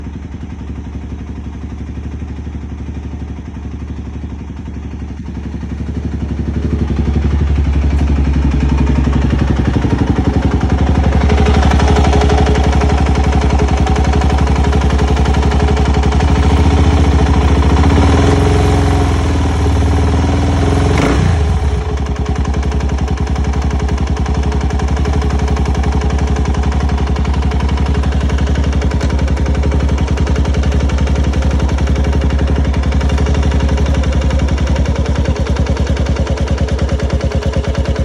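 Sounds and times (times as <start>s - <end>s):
quad bike engine knocking: 0.0s - 38.0s.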